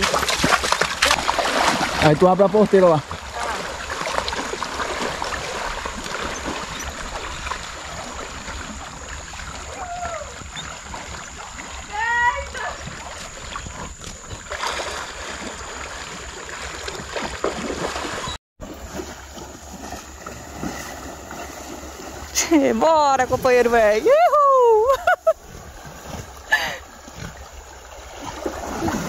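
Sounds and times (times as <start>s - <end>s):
water splashing and rushing: 0.0s - 29.0s.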